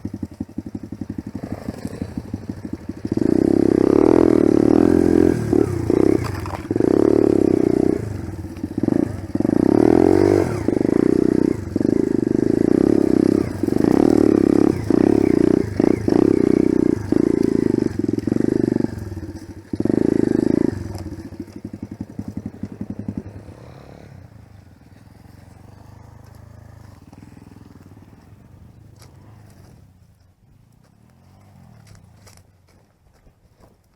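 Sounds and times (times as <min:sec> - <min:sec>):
motorcycle engine revving: 0:00.0 - 0:32.9
motorcycle engine idling: 0:00.0 - 0:33.9.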